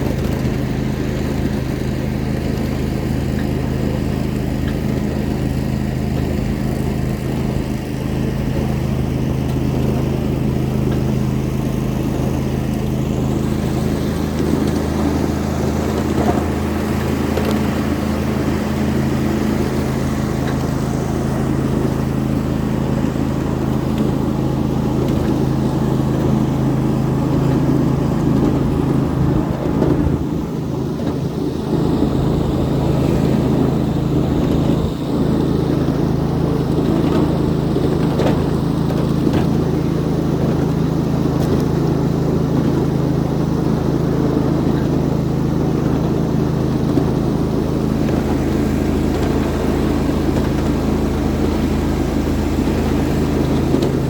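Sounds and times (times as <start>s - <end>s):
miniature train running on track: 0.0s - 54.0s.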